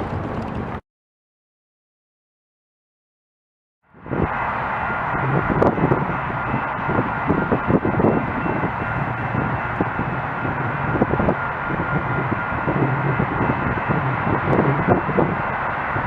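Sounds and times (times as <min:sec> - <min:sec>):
train rumbling past: 0:00.0 - 0:00.8, 0:03.9 - 0:16.0.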